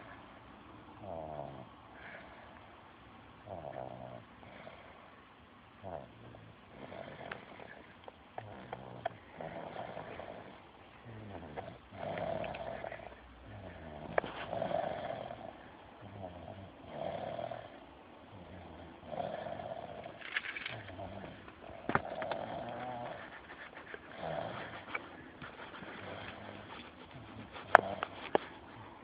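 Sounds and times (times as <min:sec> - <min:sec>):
rasping snoring: 0:01.0 - 0:02.3, 0:03.4 - 0:05.0, 0:05.8 - 0:29.0.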